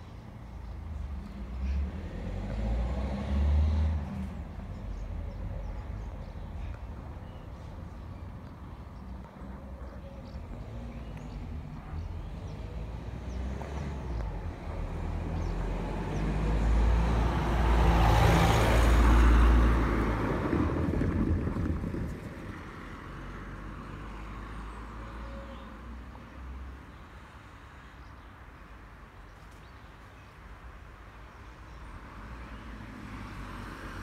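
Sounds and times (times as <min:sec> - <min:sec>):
road vehicle passing: 0:00.5 - 0:26.9, 0:31.8 - 0:34.0.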